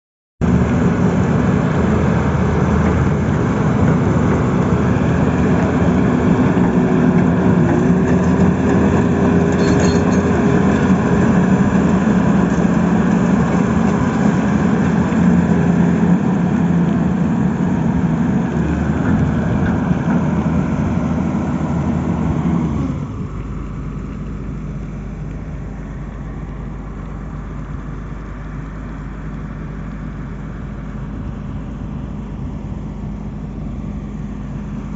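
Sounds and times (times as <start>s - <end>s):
excavator diesel engine running: 0.4s - 34.9s
low hum: 0.4s - 34.9s.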